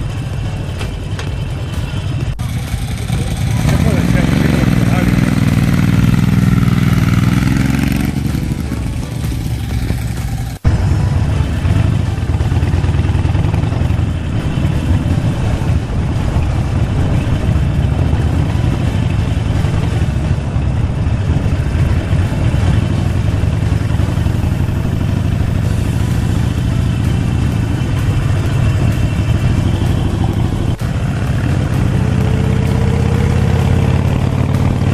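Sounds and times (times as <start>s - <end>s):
motorcycle engine running: 0.0s - 34.9s
road noise: 0.0s - 34.9s
wind: 0.0s - 34.9s.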